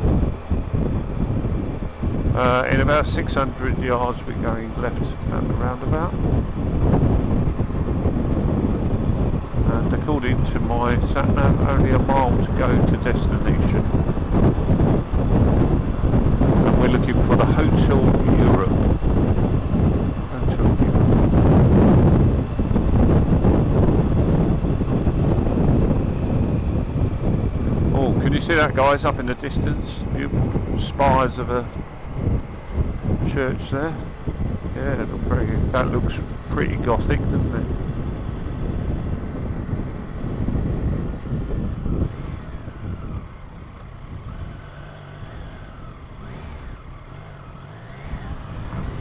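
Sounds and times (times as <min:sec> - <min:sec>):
motorcycle engine and road noise: 0:00.0 - 0:49.0
wind rushing over microphone: 0:00.0 - 0:49.0.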